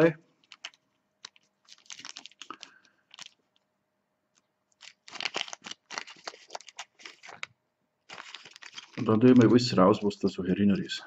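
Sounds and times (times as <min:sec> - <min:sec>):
plastic bag crinkling: 0:00.3 - 0:03.6, 0:04.3 - 0:10.3.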